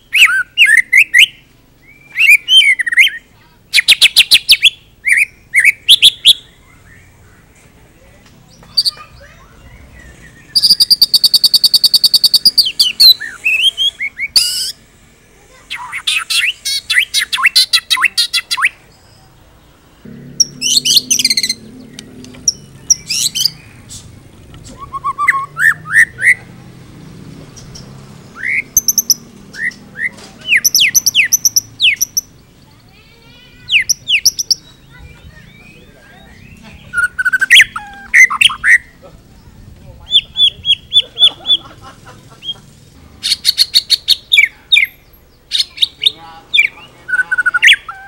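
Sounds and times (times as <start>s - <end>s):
songbird singing varied song: 0.0s - 14.9s, 15.7s - 41.7s, 42.3s - 48.0s.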